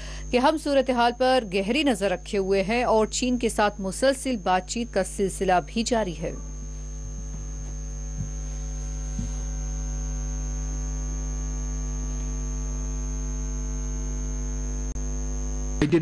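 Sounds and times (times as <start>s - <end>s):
electrical mains hum: 0.0s - 16.0s
thin high whine: 0.0s - 16.0s.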